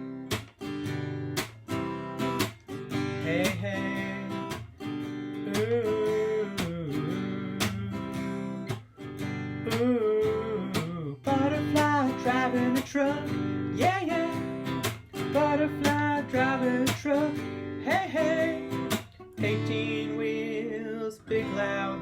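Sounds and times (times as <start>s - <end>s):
acoustic guitar strumming: 0.0s - 22.0s
man singing: 2.9s - 22.0s.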